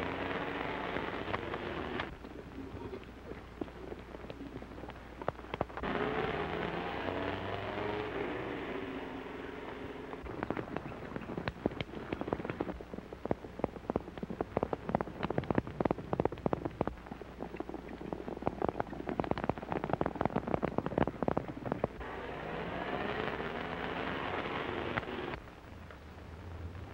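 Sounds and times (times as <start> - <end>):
horse hoofbeats galloping: 0.0 - 22.1.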